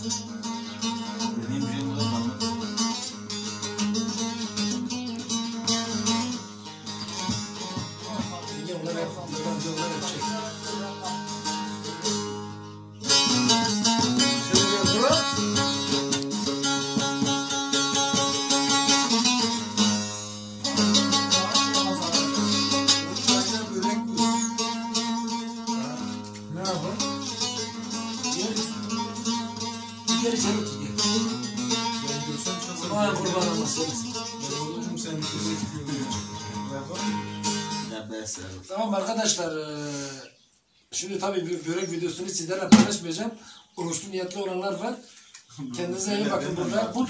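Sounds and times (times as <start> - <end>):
loud strum: 0.0 - 38.2, 42.7 - 43.1
plucked lute folk tune: 0.0 - 39.4, 41.4 - 43.2, 45.2 - 47.0.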